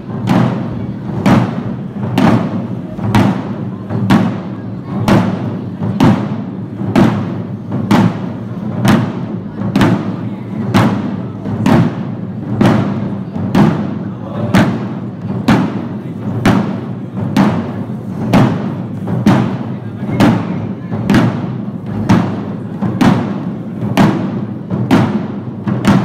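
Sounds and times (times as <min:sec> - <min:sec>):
drums beaten in slow beat: 0:00.0 - 0:26.0.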